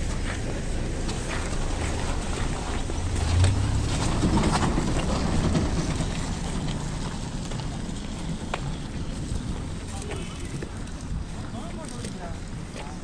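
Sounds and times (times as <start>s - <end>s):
motor vehicle rumble passing: 0.0s - 11.6s.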